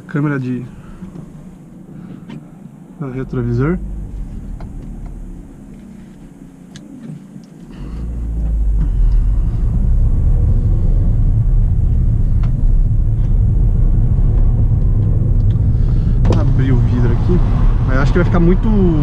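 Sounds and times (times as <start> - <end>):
car cabin rumble: 0.0 - 19.0.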